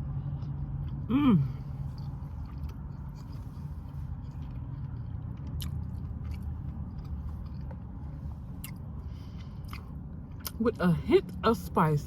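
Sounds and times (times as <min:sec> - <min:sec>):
steady low hum: 0:00.0 - 0:12.0
person chewing food: 0:00.1 - 0:10.6.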